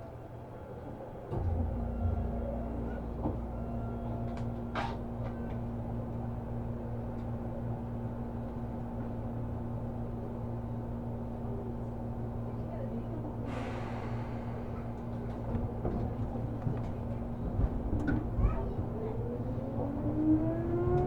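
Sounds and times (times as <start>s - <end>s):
train rumble and hum: 0.0s - 21.0s.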